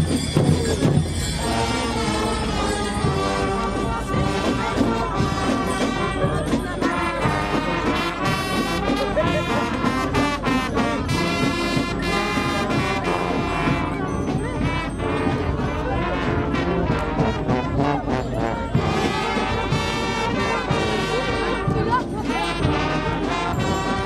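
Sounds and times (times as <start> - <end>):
brass music playing: 0.0 - 24.0.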